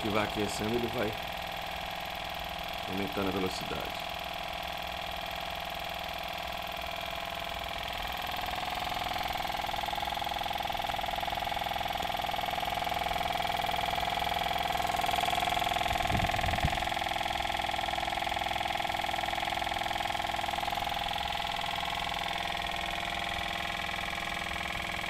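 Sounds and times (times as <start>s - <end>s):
small engine mechanical hum: 0.0s - 25.0s.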